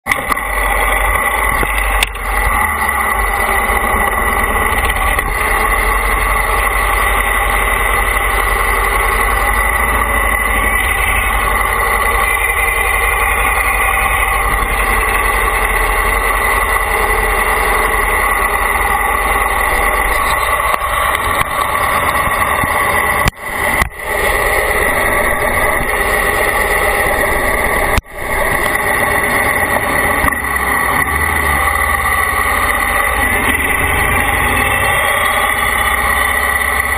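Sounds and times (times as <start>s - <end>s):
steady whine: 0.0s - 36.9s
vehicle engine rumble: 0.0s - 36.9s.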